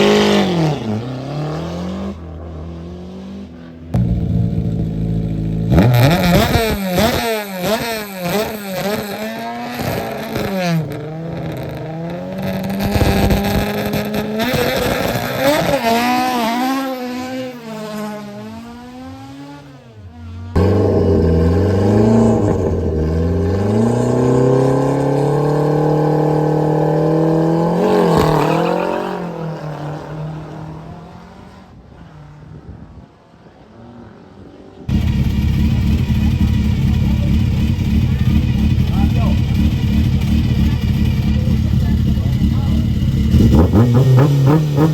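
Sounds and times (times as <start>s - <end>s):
car engine holding high revs: 0.0s - 44.9s
rally car engine revving: 0.0s - 44.9s.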